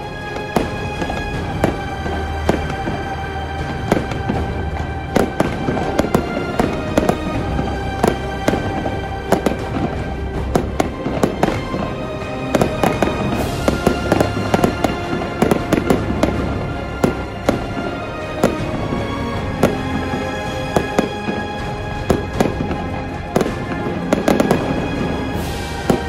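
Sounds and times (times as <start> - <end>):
background music: 0.0 - 26.0
fireworks bangs and crackles: 0.0 - 26.0.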